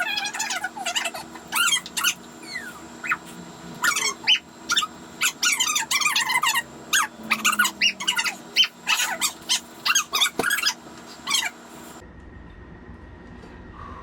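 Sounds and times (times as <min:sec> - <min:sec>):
dog whining and yipping: 0:00.0 - 0:11.6.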